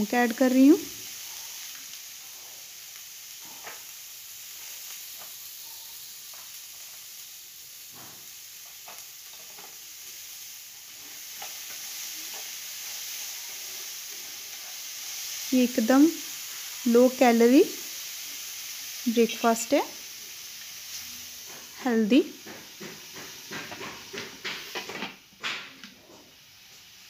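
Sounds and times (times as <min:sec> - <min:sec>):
chickpeas sizzling in oil: 0:00.0 - 0:27.0.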